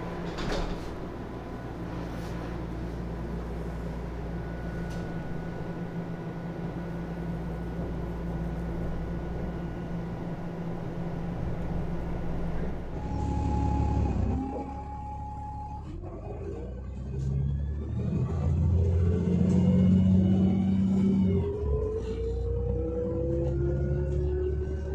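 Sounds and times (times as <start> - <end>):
bus engine running: 0.0 - 24.9
subway car interior hum: 0.0 - 24.9
rising engine whine: 1.1 - 24.9.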